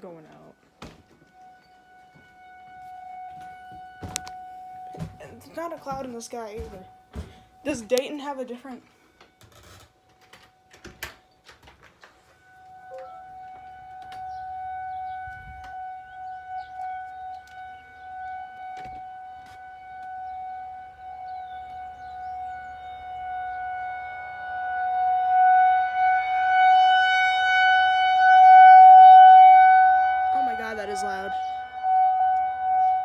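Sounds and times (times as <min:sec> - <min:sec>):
warning siren steady tone: 0:00.0 - 0:33.0.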